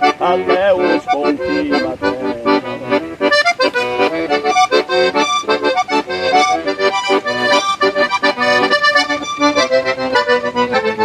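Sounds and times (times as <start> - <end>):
accordion music: 0.0 - 11.0.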